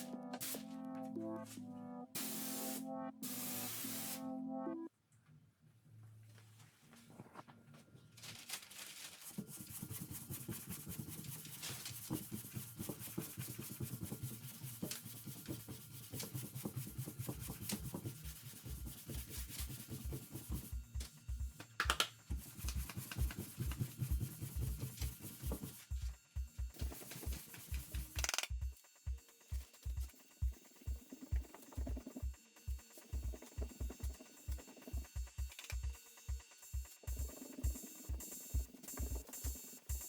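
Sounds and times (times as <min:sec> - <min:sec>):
background music with beat: 0:00.0 - 0:04.9, 0:09.5 - 0:40.0.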